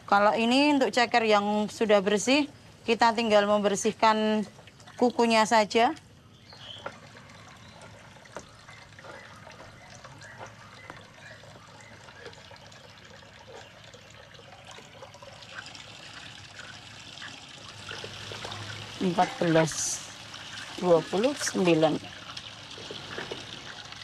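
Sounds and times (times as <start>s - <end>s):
water trickling and sloshing: 0.0s - 24.0s.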